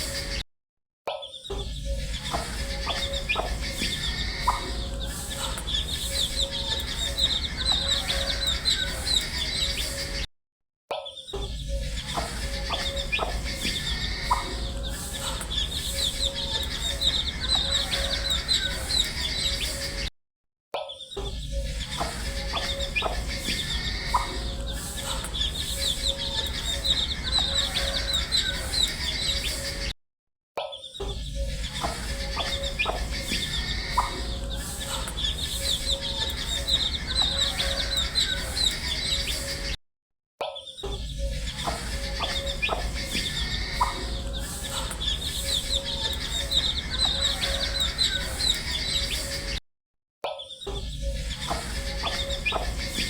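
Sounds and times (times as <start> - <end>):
baby chicks peeping: 1.8 - 10.2, 11.6 - 20.0, 21.5 - 29.9, 31.1 - 39.8, 40.9 - 49.6, 50.8 - 53.0.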